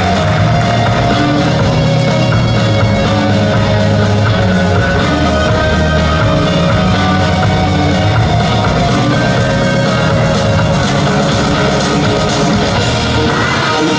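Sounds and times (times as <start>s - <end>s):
loud rock music: 0.0s - 13.9s.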